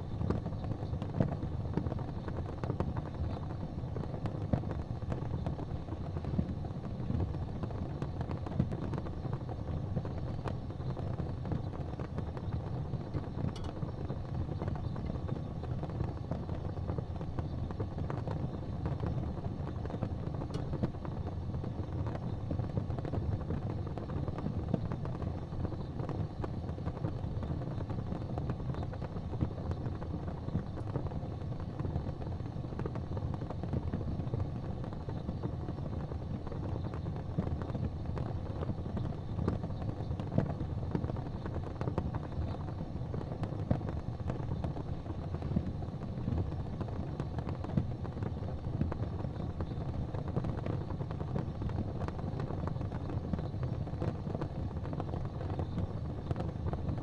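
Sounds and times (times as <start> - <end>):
fire rumbling: 0.0 - 57.0
wood crackling and popping: 0.0 - 57.0.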